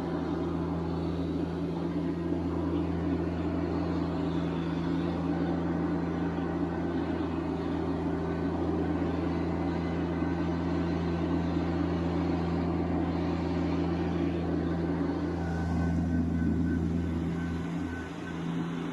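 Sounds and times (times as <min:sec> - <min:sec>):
tractor diesel engine droning: 0:00.0 - 0:18.9.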